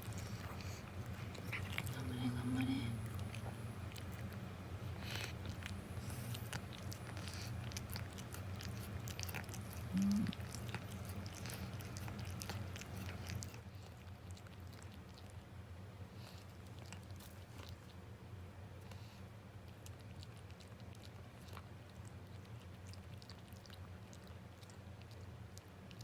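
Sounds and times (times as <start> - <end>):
cat chewing and licking: 0.0 - 26.0.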